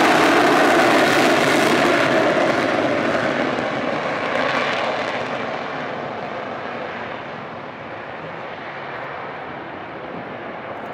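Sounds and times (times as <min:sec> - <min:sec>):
jet engine roar: 0:00.0 - 0:10.9.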